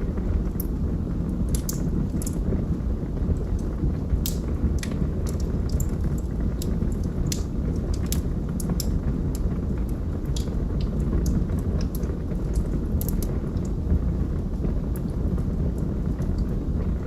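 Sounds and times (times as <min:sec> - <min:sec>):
log fire crackling and popping: 0:00.0 - 0:17.0.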